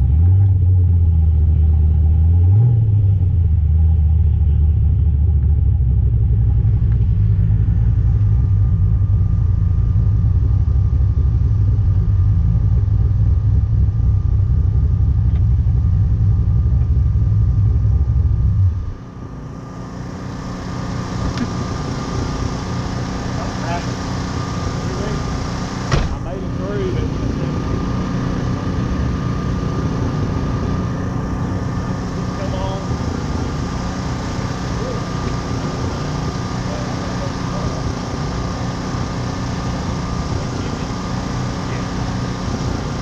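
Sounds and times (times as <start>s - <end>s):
car engine deep rumble: 0.0s - 43.0s.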